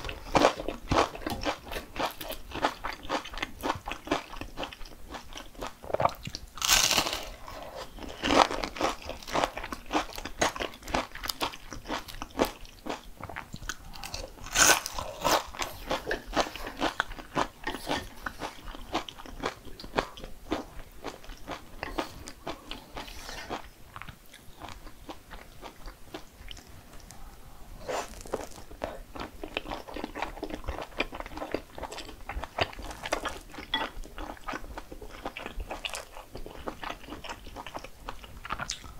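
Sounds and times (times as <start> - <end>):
crunchy chewing of food: 0.0 - 38.9.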